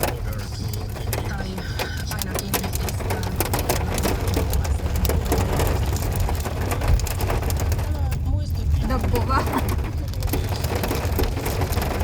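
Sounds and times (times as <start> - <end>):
car driving rumble: 0.0 - 12.0
hail pattering on car: 0.0 - 12.0.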